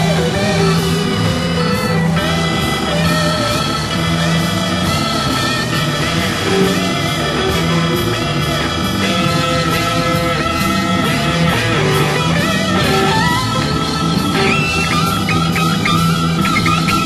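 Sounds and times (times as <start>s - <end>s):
drums: 0.0s - 17.0s
electric bass: 0.0s - 17.0s
keyboards: 0.0s - 17.0s.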